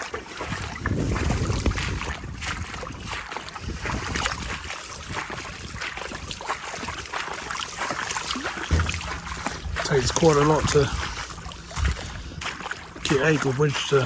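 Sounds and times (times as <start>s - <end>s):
wind buffeting microphone: 0.0s - 7.1s, 8.4s - 14.0s.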